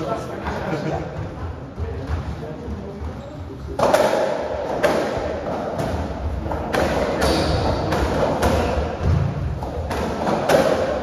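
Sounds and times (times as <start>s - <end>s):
racketball hitting rackets and walls: 2.0s - 11.0s.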